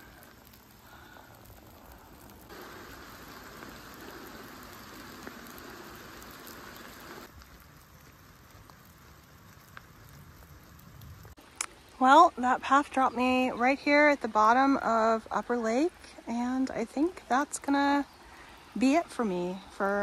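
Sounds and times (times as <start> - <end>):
watery patter and hiss: 0.0 - 20.0.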